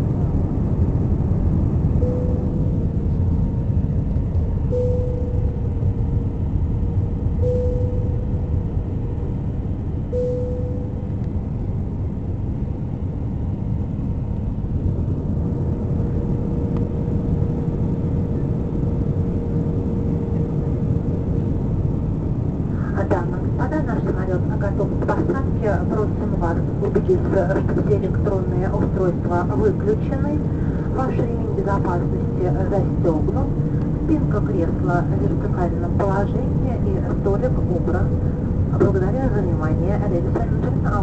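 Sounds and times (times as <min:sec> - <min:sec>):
faint mid-pitched whine: 0:00.0 - 0:18.8, 0:19.8 - 0:41.0
airliner engine and airflow rumble: 0:00.0 - 0:41.0.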